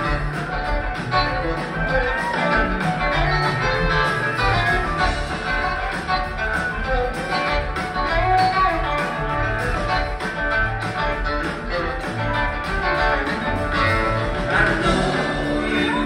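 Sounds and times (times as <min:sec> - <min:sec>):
bass: 0:00.0 - 0:16.0
drums: 0:00.0 - 0:16.0
electric guitar: 0:00.0 - 0:16.0
keyboards: 0:00.0 - 0:16.0.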